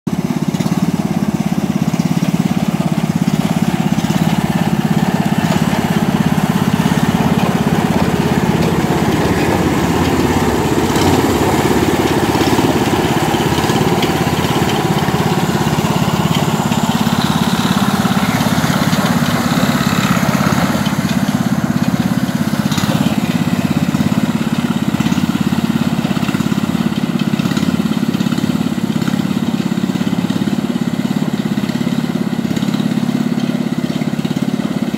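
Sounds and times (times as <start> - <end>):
small petrol engine running: 0.1 - 34.9.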